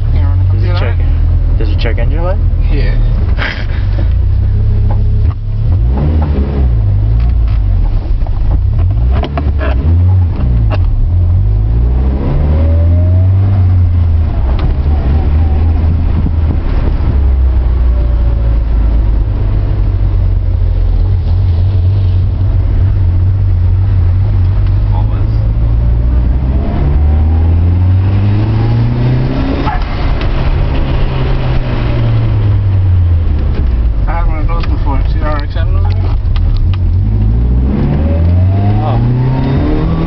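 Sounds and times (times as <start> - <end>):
car engine droning: 0.0 - 40.0.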